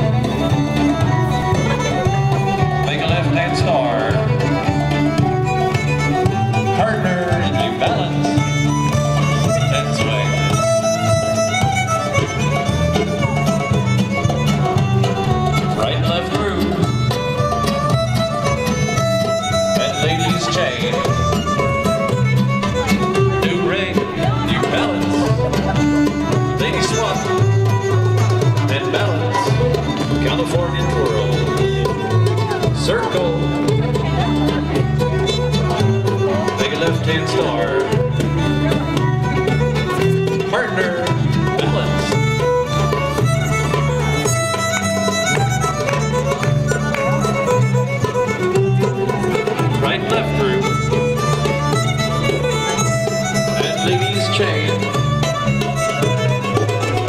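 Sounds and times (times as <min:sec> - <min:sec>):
fiddle-led dance band: 0:00.0 - 0:57.0.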